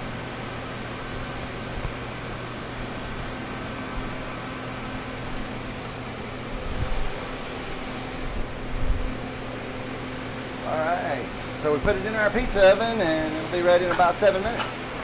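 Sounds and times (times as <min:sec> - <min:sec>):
kitchen fans whirring and humming: 0:00.0 - 0:15.0.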